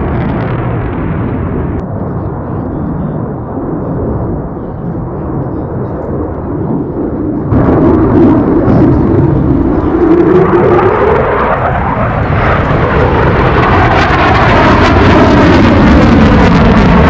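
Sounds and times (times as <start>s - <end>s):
jet engine deep rumble: 0.0s - 17.0s.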